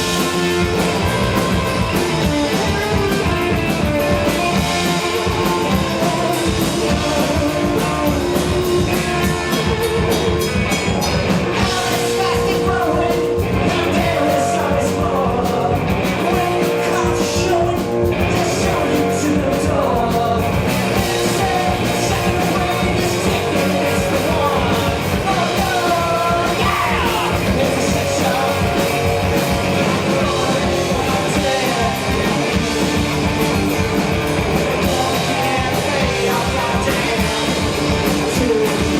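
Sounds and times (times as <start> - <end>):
drums: 0.0 - 38.9
guitars: 0.0 - 38.9
person singing: 2.0 - 33.1, 34.6 - 38.9.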